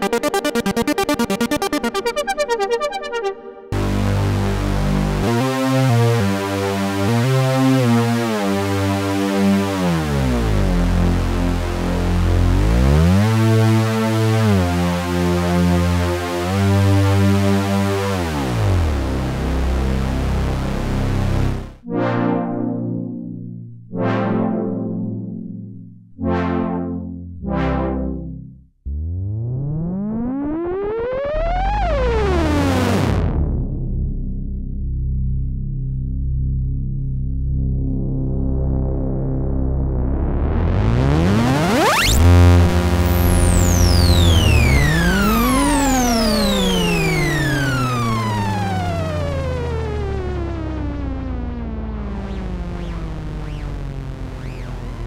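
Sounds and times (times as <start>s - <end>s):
synthesizer low note and chords: 0.0s - 55.0s.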